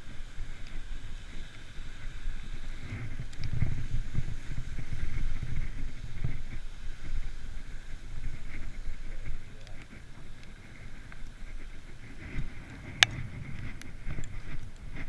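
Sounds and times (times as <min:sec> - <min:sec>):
faint steady hiss: 0:00.0 - 0:15.0
wind buffeting microphone: 0:00.0 - 0:15.0.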